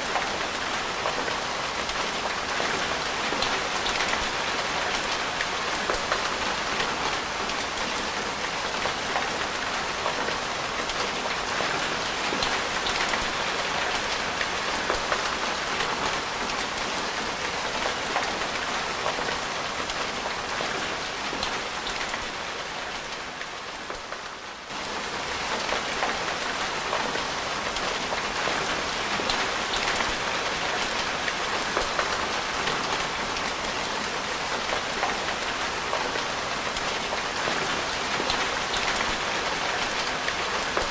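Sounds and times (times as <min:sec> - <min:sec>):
steady rain: 0:00.0 - 0:40.9
raindrops ticking on a surface: 0:00.1 - 0:40.9.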